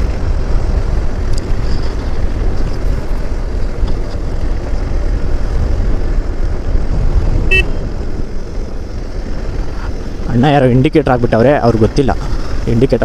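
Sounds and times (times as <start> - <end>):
motorcycle engine running: 0.0 - 12.7
wind rumble on microphone: 0.0 - 13.0.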